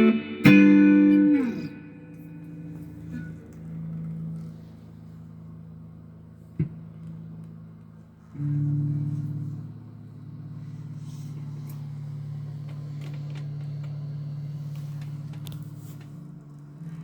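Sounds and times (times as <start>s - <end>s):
electric guitar chord ringing: 0.0s - 17.0s.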